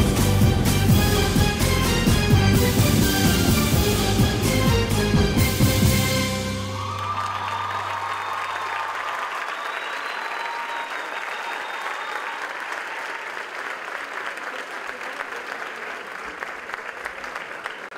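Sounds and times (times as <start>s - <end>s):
audience applauding: 0.0s - 17.9s.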